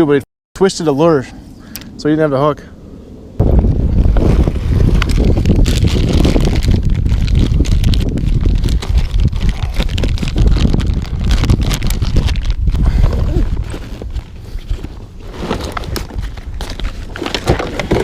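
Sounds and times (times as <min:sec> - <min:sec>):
wind buffeting microphone: 0:02.8 - 0:18.0.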